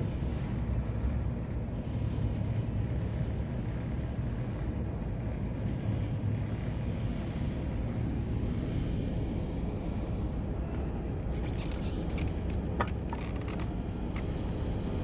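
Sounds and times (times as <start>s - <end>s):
ship engine rumbling: 0.0s - 15.0s.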